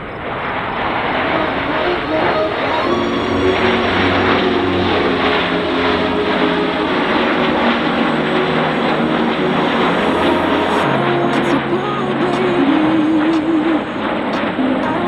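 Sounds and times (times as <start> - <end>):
jets flying overhead: 0.0 - 14.6.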